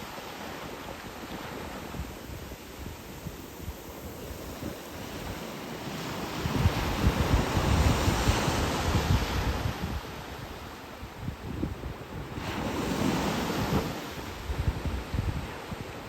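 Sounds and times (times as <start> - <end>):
surf waves breaking: 0.0 - 16.0
wind buffeting microphone: 0.0 - 16.0.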